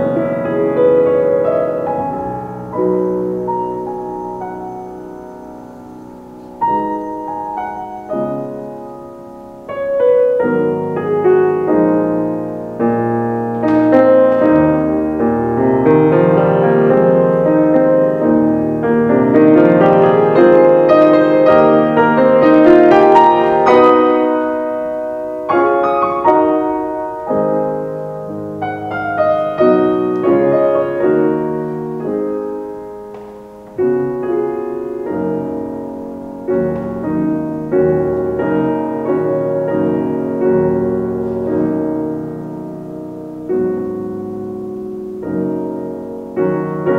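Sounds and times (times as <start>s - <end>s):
solo piano playing chords: 0.0s - 46.9s.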